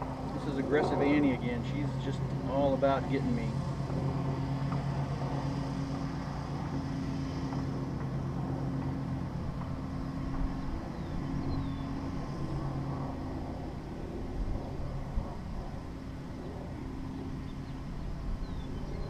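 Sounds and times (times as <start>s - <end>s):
lawn mower engine drone: 0.0s - 19.0s.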